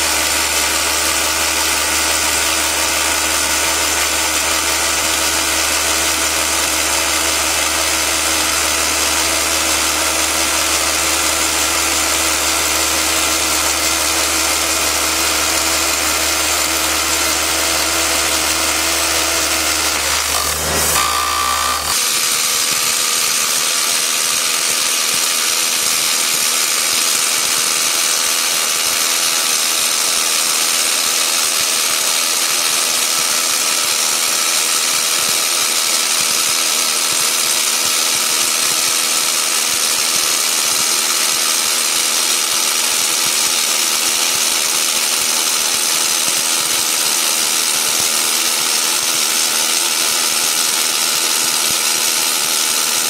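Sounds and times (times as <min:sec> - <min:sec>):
rock drilling rig running: 0:00.0 - 0:53.0.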